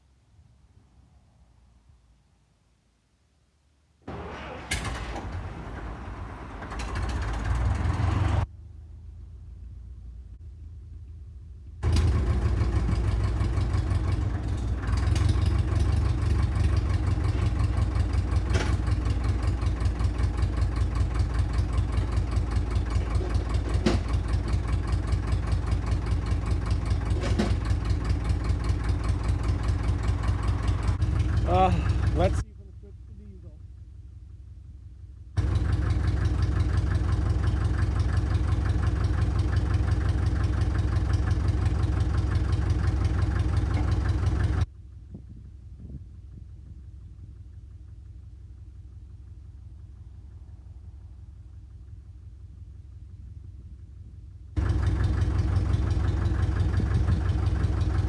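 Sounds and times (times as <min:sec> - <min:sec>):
diesel engine cranking and starting: 0:04.0 - 0:09.5, 0:11.5 - 0:34.3, 0:35.4 - 0:53.2, 0:54.6 - 0:58.0
diesel engine running: 0:04.1 - 0:58.0.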